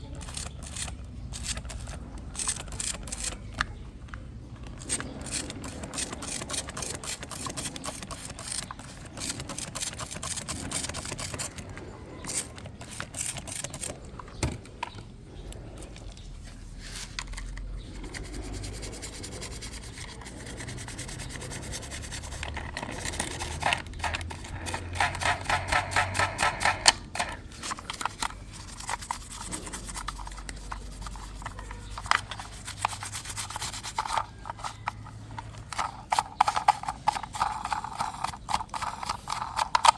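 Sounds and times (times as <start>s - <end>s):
scrubbing strokes on toy car: 0.1s - 39.9s.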